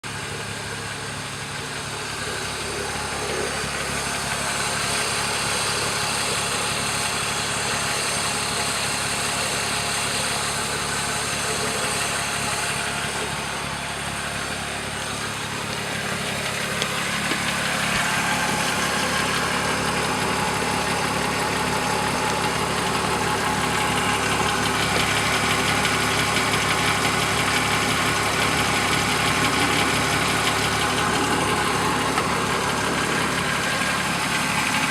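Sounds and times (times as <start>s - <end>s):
car engine idling: 0.0s - 34.9s
engine rattle: 0.0s - 34.9s.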